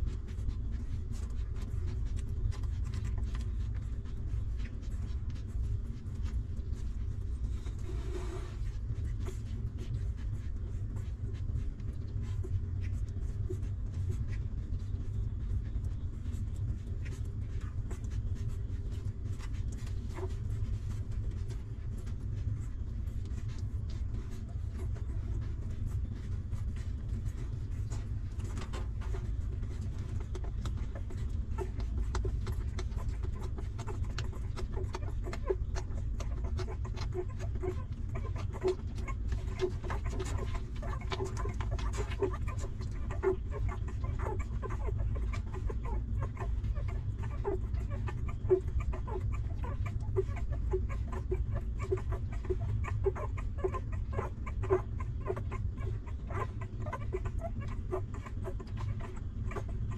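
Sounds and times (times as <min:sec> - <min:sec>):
puppies suckling wet clicks: 0:00.0 - 0:59.9.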